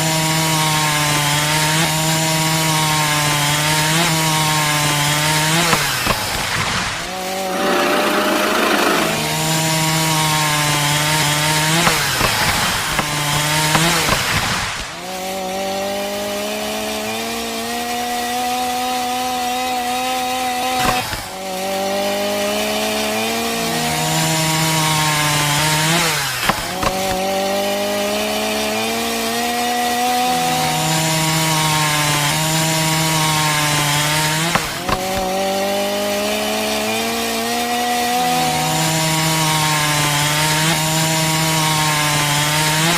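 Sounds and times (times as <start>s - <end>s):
small motor whining: 1.0s - 42.9s.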